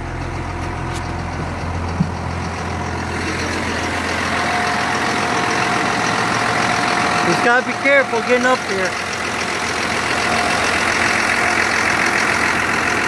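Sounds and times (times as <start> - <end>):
bus engine idling: 0.0 - 13.0
steady whine: 0.0 - 13.0.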